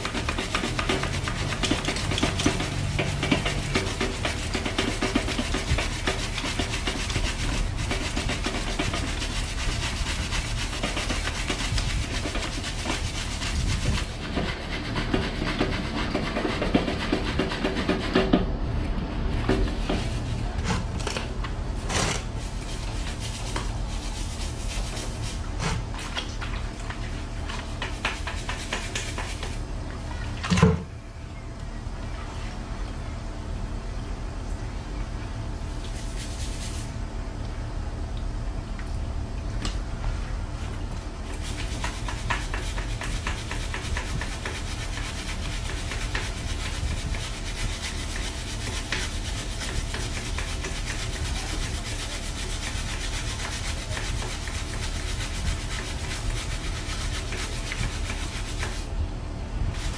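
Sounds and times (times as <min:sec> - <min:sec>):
stiff brush scrubbing metal: 0:00.0 - 0:29.7, 0:35.7 - 0:37.0, 0:40.5 - 0:59.0, 0:59.6 - 0:59.9.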